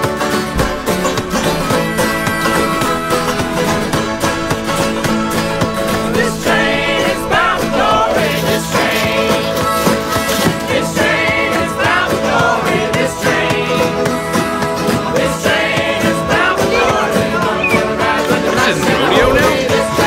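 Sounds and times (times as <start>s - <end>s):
song with singing voice: 0.5s - 20.0s.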